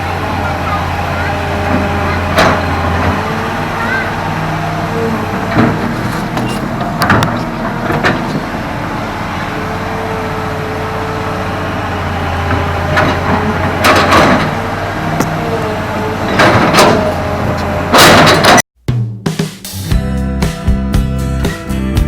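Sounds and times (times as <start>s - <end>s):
excavator diesel engine running: 0.0s - 18.6s
machine knocks and clanks: 0.0s - 18.6s.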